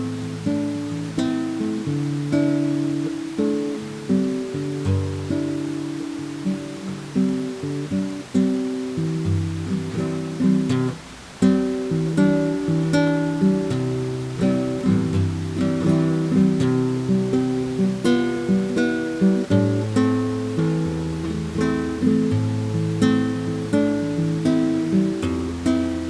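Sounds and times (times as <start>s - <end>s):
acoustic guitar picking and strumming: 0.0s - 26.0s.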